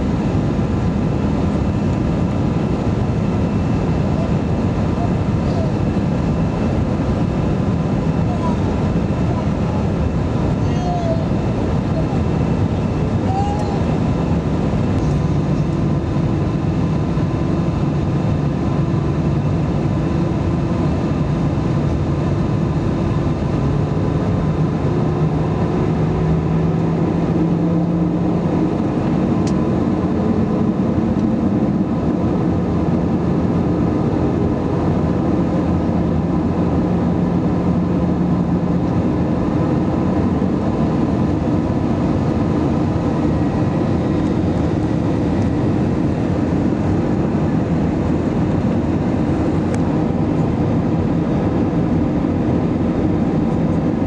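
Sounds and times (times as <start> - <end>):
air rushing around aircraft cabin: 0.0 - 54.0
jet engines humming: 0.0 - 54.0.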